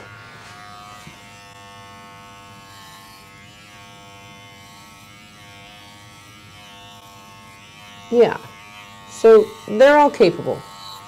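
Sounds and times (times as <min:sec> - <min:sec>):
electric clipper humming: 0:00.0 - 0:11.0.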